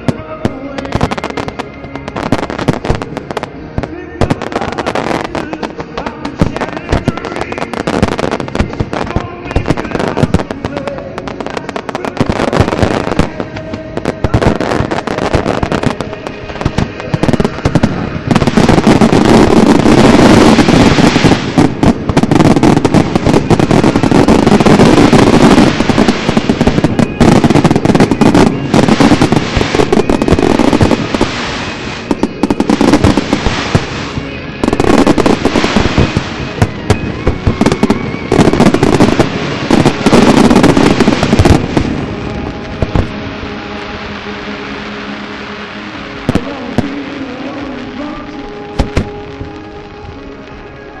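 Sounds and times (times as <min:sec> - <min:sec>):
fireworks bursting: 0:00.0 - 0:51.0
music: 0:00.0 - 0:51.0.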